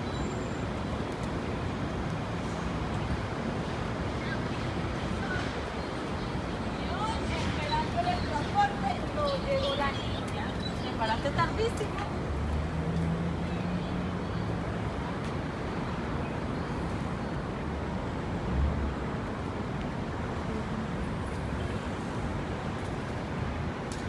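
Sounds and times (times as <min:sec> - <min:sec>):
city street traffic rumble: 0:00.0 - 0:24.0.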